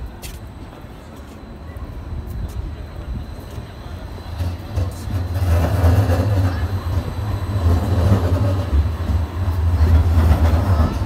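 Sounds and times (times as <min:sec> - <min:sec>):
large vehicle rumbling: 0:00.0 - 0:11.0.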